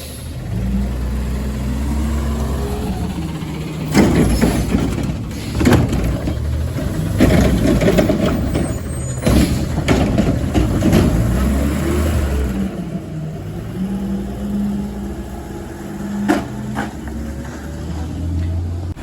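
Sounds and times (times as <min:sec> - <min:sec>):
garbage truck diesel engine: 0:00.0 - 0:19.0.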